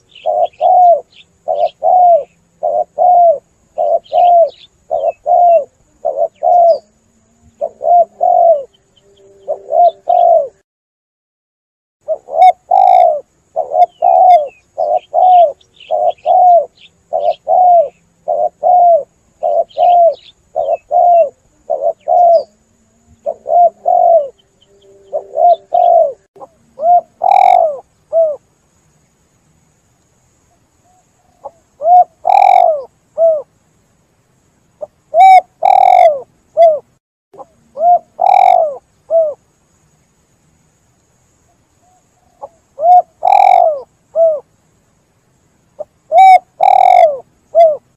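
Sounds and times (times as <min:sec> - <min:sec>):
dove cooing: 0:00.0 - 0:10.6, 0:12.0 - 0:28.4, 0:30.9 - 0:33.5, 0:34.8 - 0:39.4, 0:41.8 - 0:44.5, 0:45.8 - 0:47.9.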